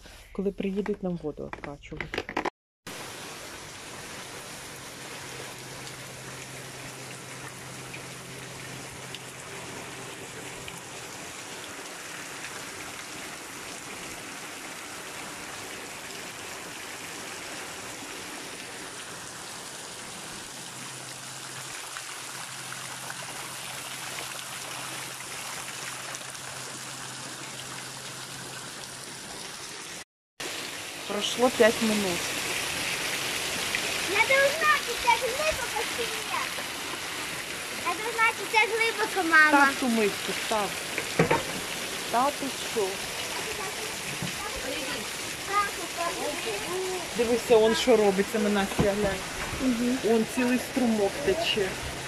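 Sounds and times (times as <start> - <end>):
heavy rain splashing into water: 2.9 - 52.0.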